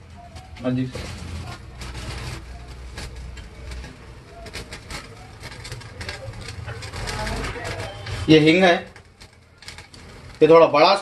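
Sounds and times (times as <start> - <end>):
gas stove burner rumble: 0.0 - 11.0
metal spoon scraping plastic jar: 0.1 - 11.0.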